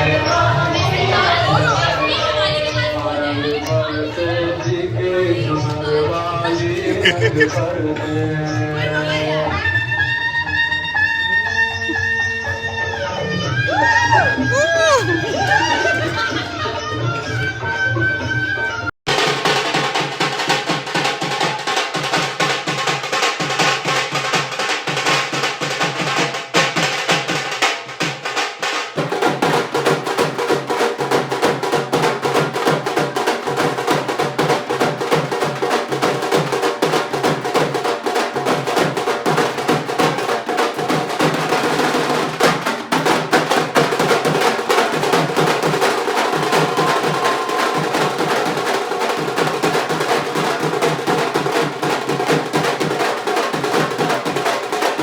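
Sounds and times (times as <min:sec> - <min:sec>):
drum-driven background music: 0:04.6 - 0:17.7, 0:18.5 - 0:55.0.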